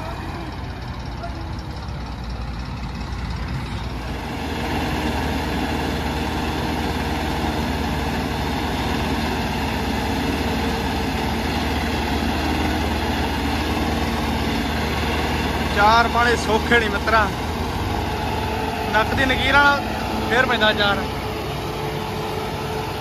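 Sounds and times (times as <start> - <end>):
tractor diesel engines straining: 0.0 - 23.0.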